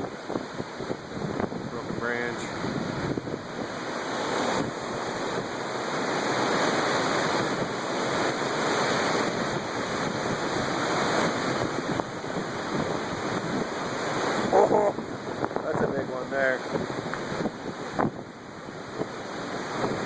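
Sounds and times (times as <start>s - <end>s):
strong wind rushing on microphone: 0.0s - 20.0s.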